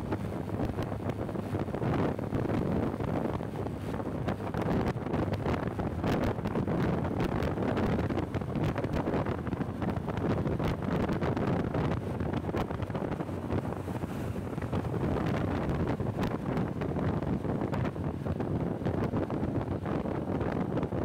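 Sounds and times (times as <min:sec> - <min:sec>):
road and traffic noise: 0:00.0 - 0:21.0
wind buffeting microphone: 0:00.0 - 0:21.0.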